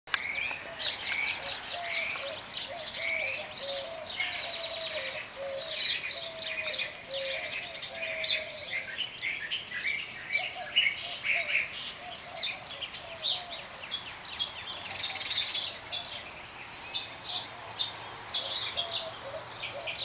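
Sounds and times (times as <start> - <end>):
birds chirping and singing: 0.1 - 20.0.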